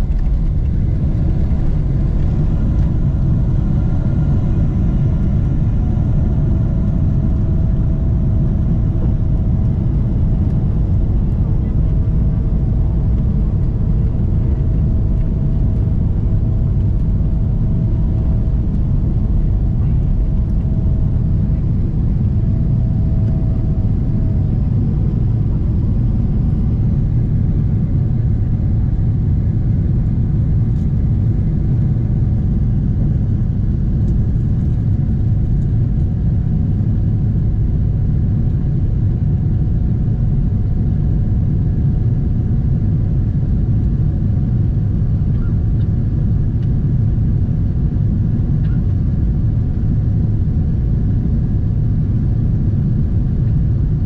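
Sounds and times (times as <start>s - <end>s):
aircraft cabin engine rumble: 0.0s - 54.0s
faint steady hum: 0.0s - 54.0s.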